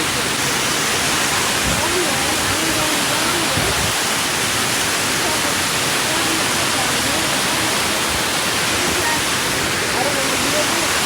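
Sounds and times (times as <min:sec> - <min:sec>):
fountain water pouring: 0:00.0 - 0:11.0.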